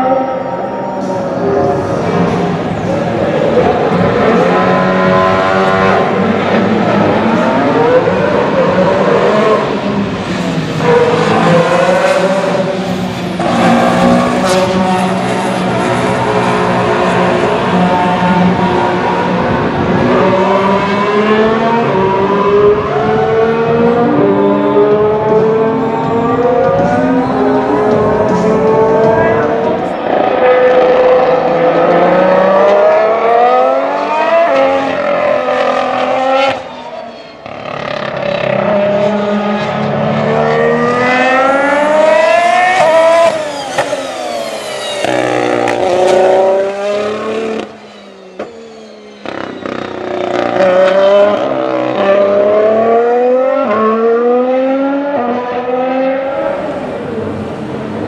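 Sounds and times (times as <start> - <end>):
racing car engines at full throttle: 0.0 - 58.0.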